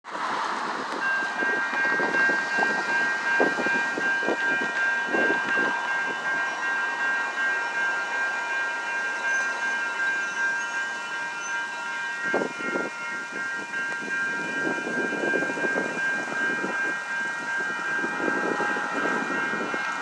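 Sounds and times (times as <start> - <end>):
train high-pitched whine: 0.1 - 20.0.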